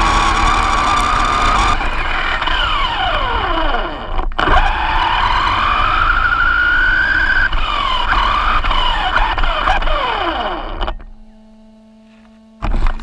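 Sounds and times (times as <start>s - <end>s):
tyres rumbling on dirt: 0.0s - 11.0s
rc car motor whining: 0.0s - 13.0s.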